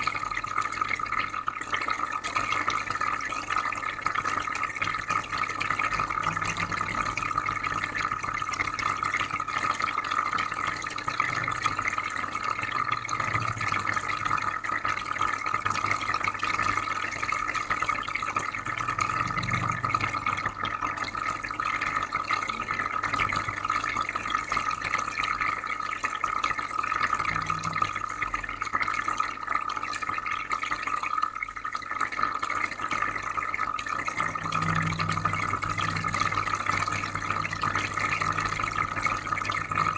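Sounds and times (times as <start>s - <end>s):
aquarium filter bubbling water: 0.0s - 39.9s
low electrical hum: 2.6s - 29.2s, 32.9s - 39.9s.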